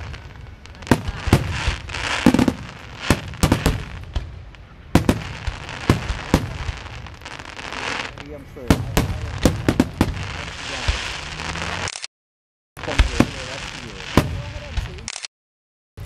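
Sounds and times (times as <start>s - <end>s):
fireworks banging: 0.0s - 12.0s, 12.8s - 15.1s
fireworks crackling: 0.0s - 12.1s, 12.8s - 15.3s.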